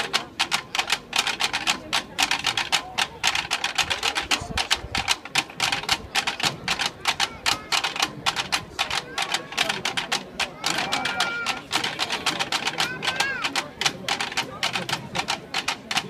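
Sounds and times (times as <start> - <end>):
marching snare drums: 0.0 - 16.0.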